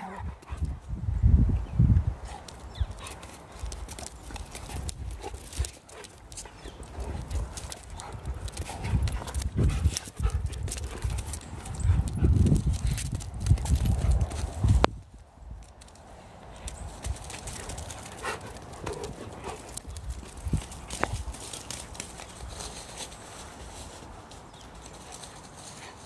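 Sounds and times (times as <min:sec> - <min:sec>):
dogs scuffling: 0:02.3 - 0:14.9, 0:15.7 - 0:26.0.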